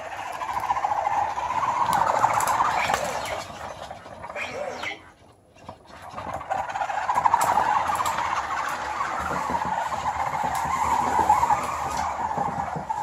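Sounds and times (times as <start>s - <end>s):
toy motor whirring: 0.0s - 13.0s.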